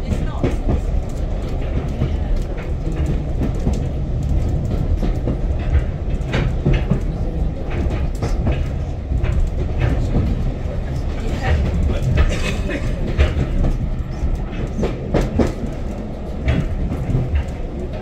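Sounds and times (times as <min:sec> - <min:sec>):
railway carriage rumbling: 0:00.0 - 0:18.0
wheels clicking on rails: 0:00.0 - 0:18.0.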